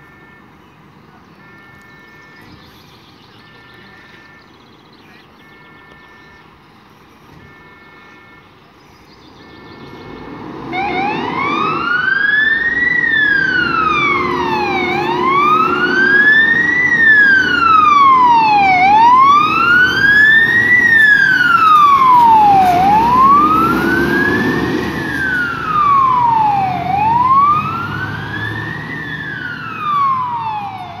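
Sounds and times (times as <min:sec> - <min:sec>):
fire engine siren wailing: 0:00.0 - 0:08.6, 0:09.4 - 0:31.0
diesel truck engine: 0:00.0 - 0:31.0.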